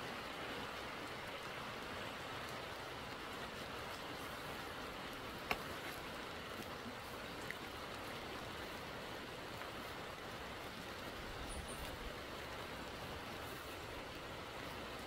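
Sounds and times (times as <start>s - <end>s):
rain on foliage: 0.0s - 15.0s.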